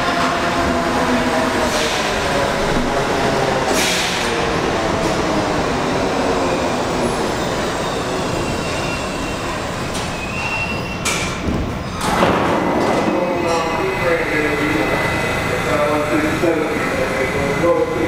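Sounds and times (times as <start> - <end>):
subway train slowing to a stop: 0.0 - 18.0
train whine: 0.0 - 18.0.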